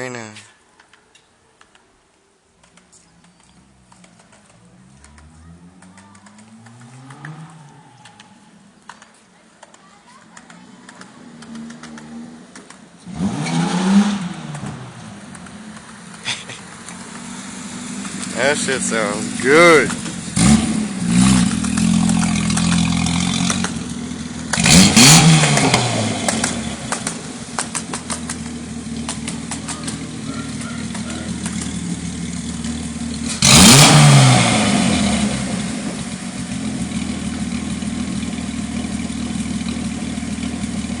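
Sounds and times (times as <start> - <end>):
car engine revving: 4.8 - 8.5, 11.3 - 41.0.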